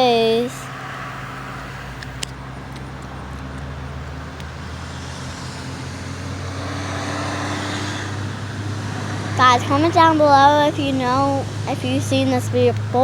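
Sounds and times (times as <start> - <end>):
low rumble of motor traffic: 0.0 - 13.0.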